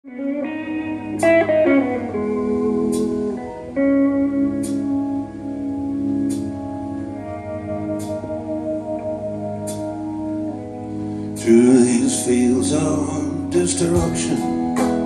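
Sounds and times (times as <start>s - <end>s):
electric guitar notes: 0.0s - 15.0s
held keyboard chords: 0.0s - 15.0s
slow rock ballad over loudspeakers: 0.0s - 15.0s.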